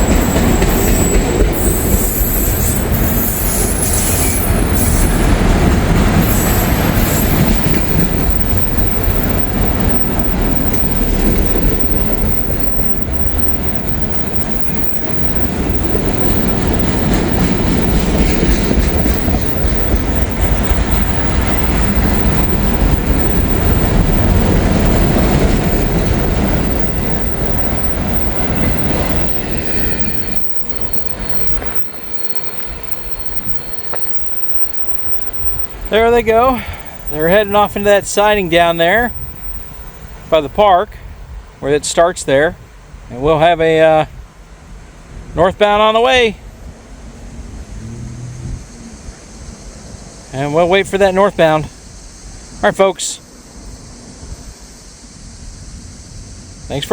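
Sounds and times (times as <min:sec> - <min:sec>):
freight train cars clattering: 0:00.0 - 0:48.8.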